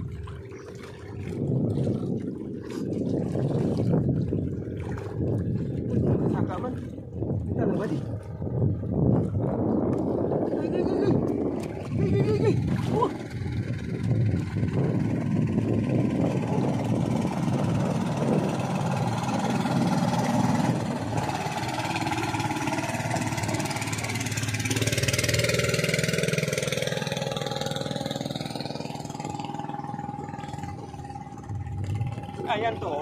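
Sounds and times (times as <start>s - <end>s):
small boat engine running: 0.0s - 33.0s
water sloshing around hull: 0.0s - 33.0s.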